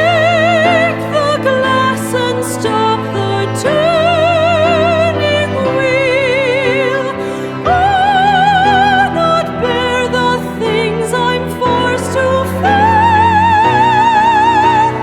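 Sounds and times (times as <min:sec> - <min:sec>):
wordless ballad melody with vibrato: 0:00.0 - 0:15.0.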